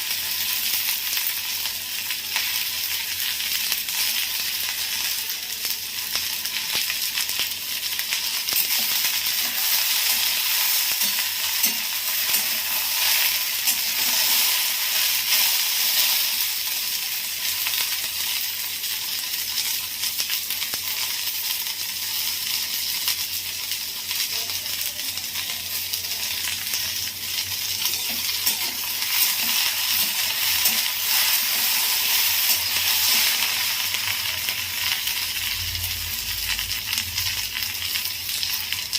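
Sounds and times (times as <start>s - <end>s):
okra sizzling in hot oil: 0.0s - 38.9s.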